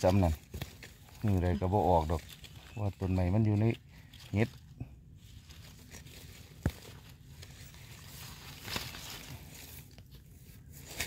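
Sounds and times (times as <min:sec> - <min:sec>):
hands rustling through leaf litter: 0:00.0 - 0:11.0.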